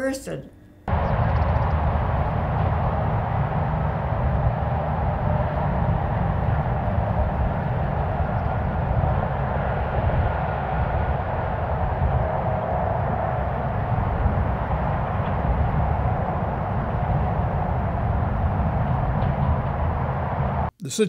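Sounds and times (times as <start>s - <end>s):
construction machinery: 0.9s - 20.7s
distant highway traffic: 0.9s - 20.7s.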